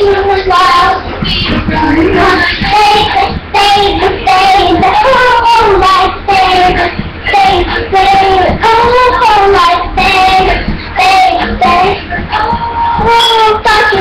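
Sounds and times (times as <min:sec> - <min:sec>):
child singing unaccompanied: 0:00.0 - 0:14.0.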